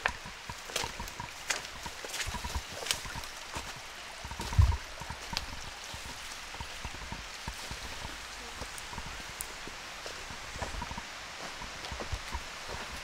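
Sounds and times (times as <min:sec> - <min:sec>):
footsteps on twigs and leaves: 0:00.0 - 0:13.0
mountain stream flowing: 0:00.0 - 0:13.0.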